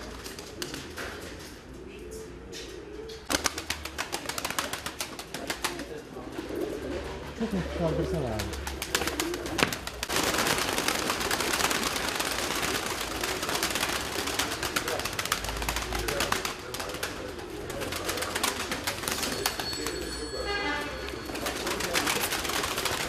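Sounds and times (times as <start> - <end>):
pigeons flapping wings: 0.0 - 1.6, 3.1 - 7.2, 7.8 - 20.1, 21.0 - 23.0
pigeons cooing: 0.0 - 19.6.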